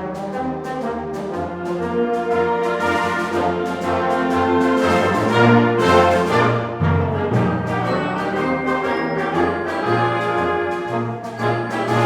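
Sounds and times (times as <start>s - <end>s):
concert band playing: 1.4s - 12.0s.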